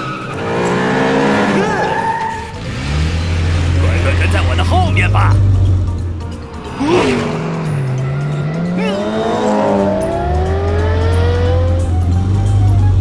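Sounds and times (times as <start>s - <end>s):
cartoon race car engine: 0.0s - 5.7s, 6.7s - 12.9s.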